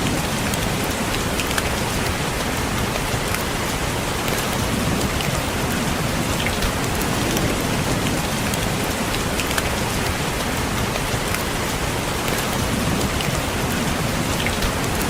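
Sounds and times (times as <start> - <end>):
rain tapping on window: 0.0 - 15.0.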